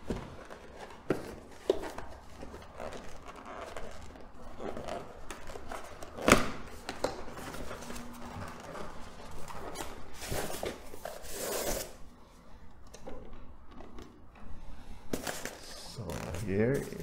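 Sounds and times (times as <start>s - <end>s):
cardboard rustling and scraping: 0.0s - 12.1s, 15.1s - 17.0s.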